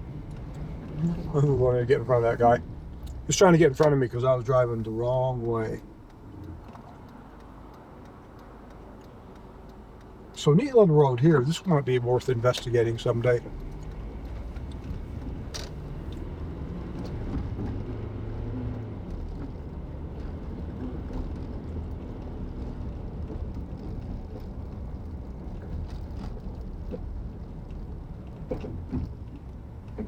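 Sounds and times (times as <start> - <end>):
engine and tyre road noise: 0.0 - 30.0.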